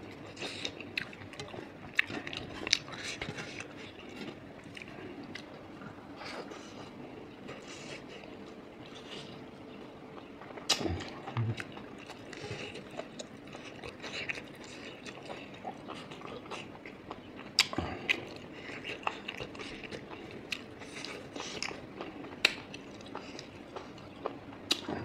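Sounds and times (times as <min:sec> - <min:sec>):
chewing with wet lip smacks: 0:00.1 - 0:06.6, 0:07.3 - 0:25.0.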